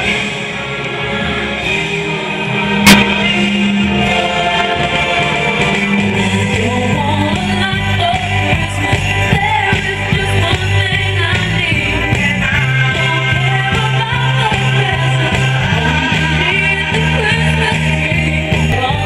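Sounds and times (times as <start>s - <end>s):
bass: 0.0s - 19.0s
upbeat song with singing: 2.9s - 19.0s.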